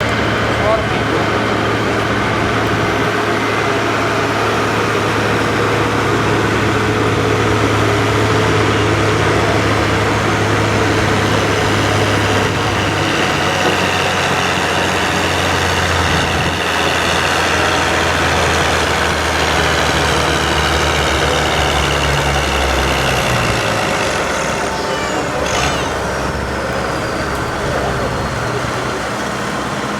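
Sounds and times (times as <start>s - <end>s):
tractor engine running under load: 0.0s - 29.9s.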